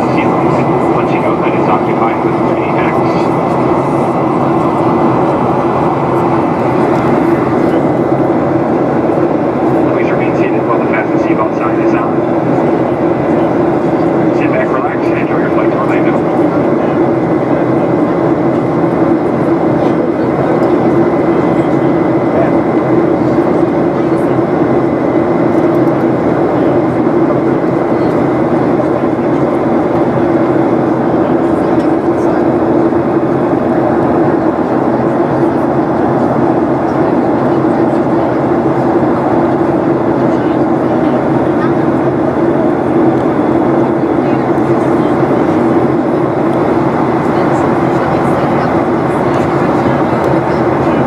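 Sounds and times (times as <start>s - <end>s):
jet engine drone: 0.0s - 51.0s.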